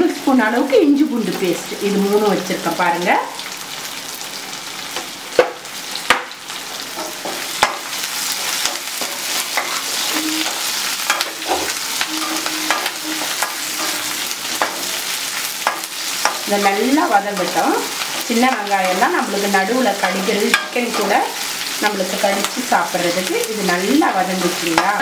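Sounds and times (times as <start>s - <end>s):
spices sizzling in hot oil: 0.0s - 25.0s.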